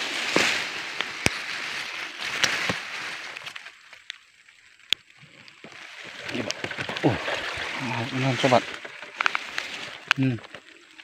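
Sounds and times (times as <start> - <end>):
grass and leaves rustling: 0.0 - 11.0.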